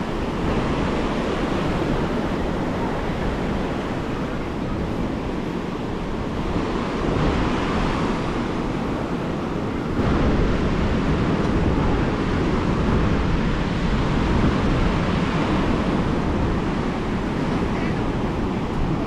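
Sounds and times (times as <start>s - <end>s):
ocean surf breaking: 0.0s - 19.0s
wind on microphone: 0.0s - 19.0s.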